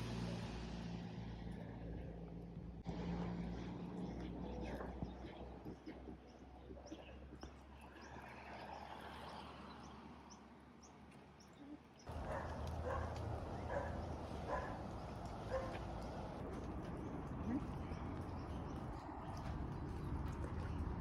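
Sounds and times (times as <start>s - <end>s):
small birds chirping: 3.9s - 21.0s.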